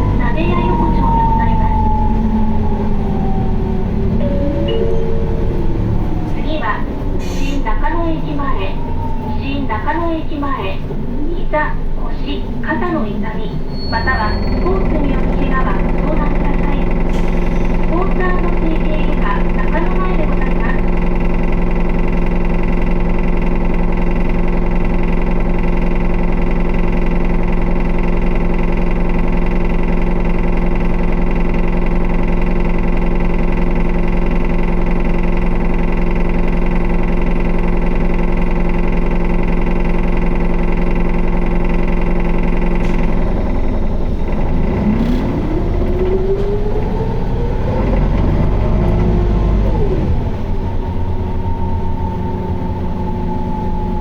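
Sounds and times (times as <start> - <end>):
bus engine droning: 0.0 - 54.0
engine whine: 0.0 - 54.0.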